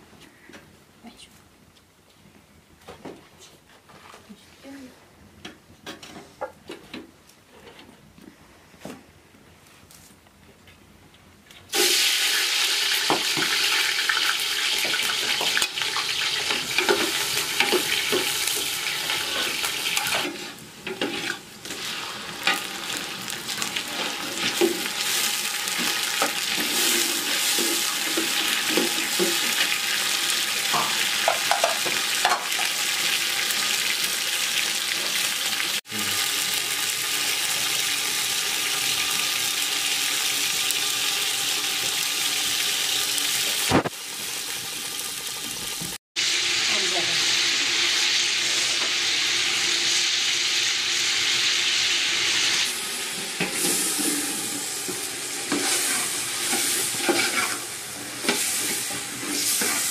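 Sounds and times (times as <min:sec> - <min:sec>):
food sizzling in a pot: 0:11.7 - 0:59.9.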